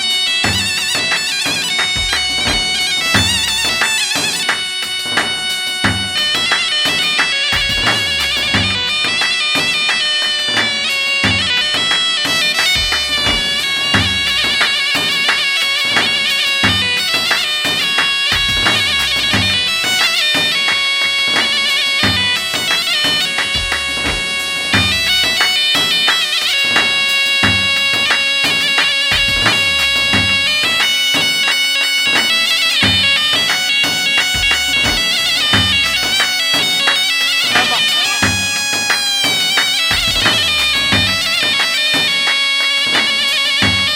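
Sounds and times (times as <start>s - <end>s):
reedy wind instrument melody: 0.0s - 43.9s
steady drum beat: 0.0s - 43.9s.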